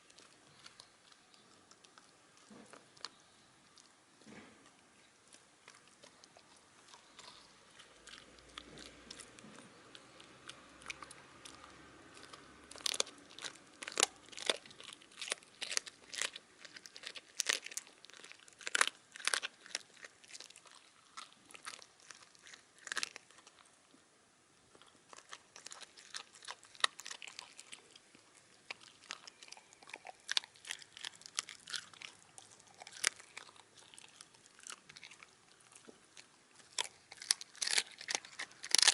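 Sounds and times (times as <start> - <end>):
dog chewing bones: 4.2 - 23.7, 24.8 - 38.9.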